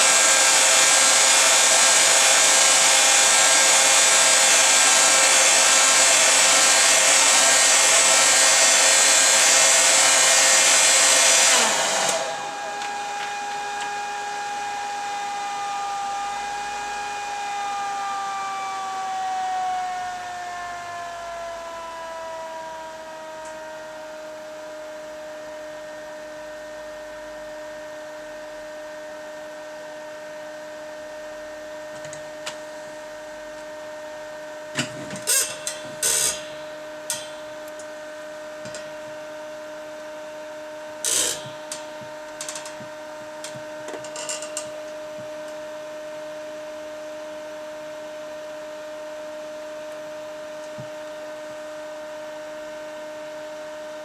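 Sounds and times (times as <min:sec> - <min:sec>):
steady whine: 0:00.0 - 0:54.0.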